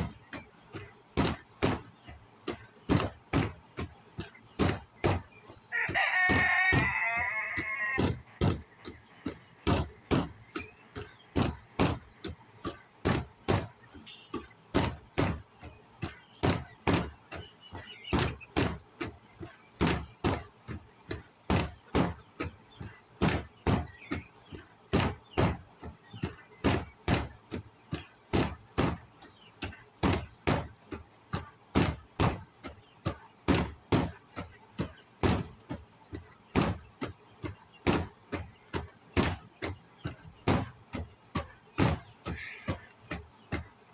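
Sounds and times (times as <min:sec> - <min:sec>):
sharp knocks: 0:00.0 - 0:43.8.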